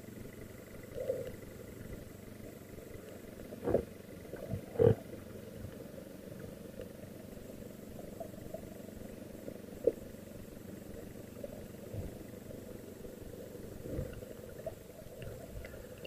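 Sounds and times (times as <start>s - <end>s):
underwater rumble: 0.0s - 16.0s.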